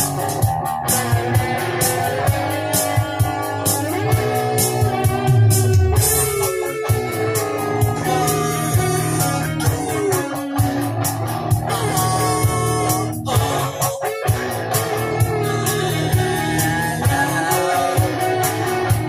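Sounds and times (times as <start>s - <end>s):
electric guitar rock playing: 0.0s - 19.0s
steady drum beat: 0.0s - 19.0s.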